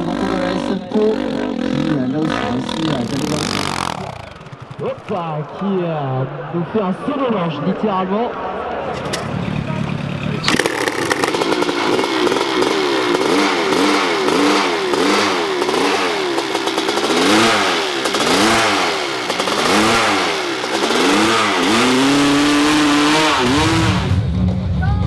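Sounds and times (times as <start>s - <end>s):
dirt bike engine revving: 0.0s - 24.6s.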